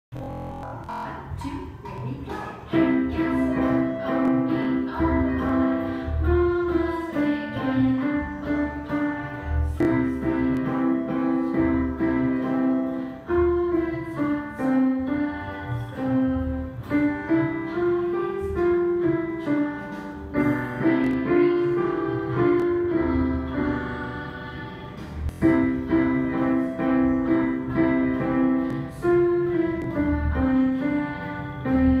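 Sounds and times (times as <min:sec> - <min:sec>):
digital piano melody: 0:00.1 - 0:32.0.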